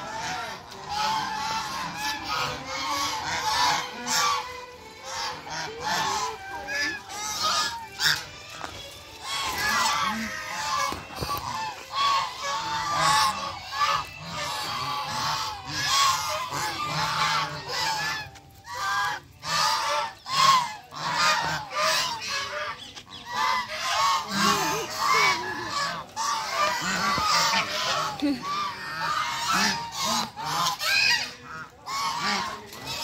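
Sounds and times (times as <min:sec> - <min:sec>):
geese honking: 0:00.0 - 0:33.0.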